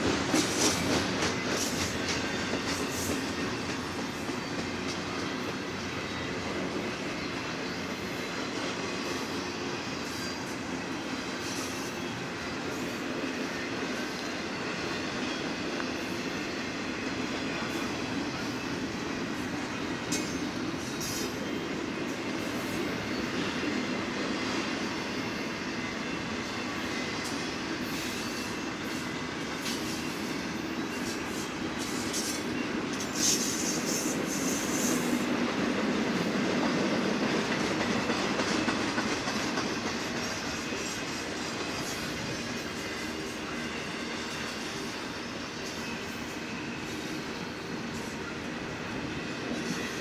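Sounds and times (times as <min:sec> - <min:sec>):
freight train rumbling past: 0:00.0 - 0:50.0
high wheel squeal: 0:00.4 - 0:35.3, 0:38.6 - 0:50.0.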